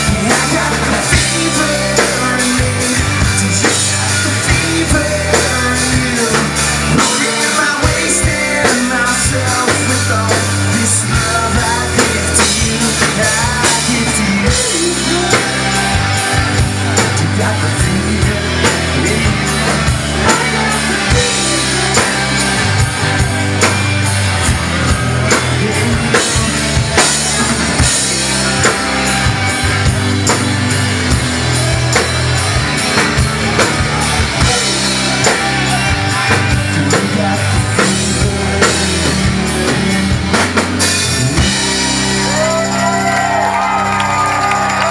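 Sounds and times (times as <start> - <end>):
bass guitar: 0.0 - 44.9
drum kit beat: 0.0 - 44.9
electric guitars: 0.0 - 44.9.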